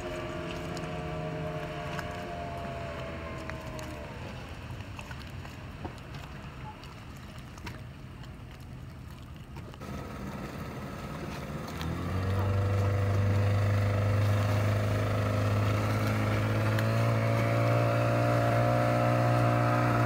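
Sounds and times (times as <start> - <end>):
nearby outboard engine: 0.0 - 20.0
speedboat outboard engines: 0.0 - 20.0
water and wind hiss: 0.0 - 20.0.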